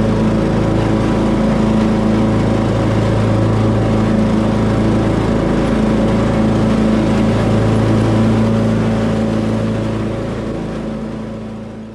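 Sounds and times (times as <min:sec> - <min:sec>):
riding lawn mower engine running: 0:00.0 - 0:11.9.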